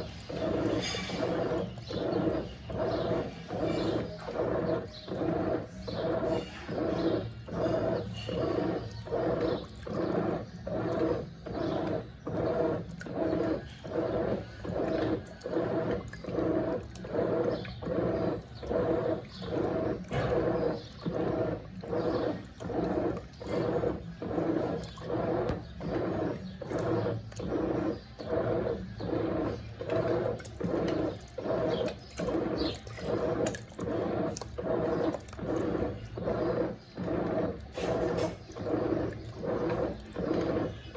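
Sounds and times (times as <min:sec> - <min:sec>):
low motor hum: 0:00.0 - 0:40.9
washing machine agitating in pulses: 0:00.0 - 0:40.9.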